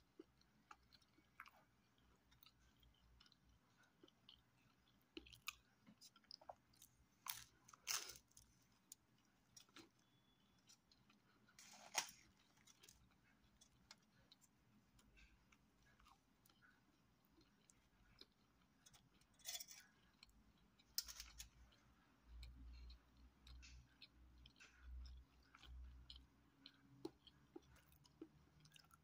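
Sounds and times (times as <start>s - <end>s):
chewing pizza: 0.0s - 29.0s.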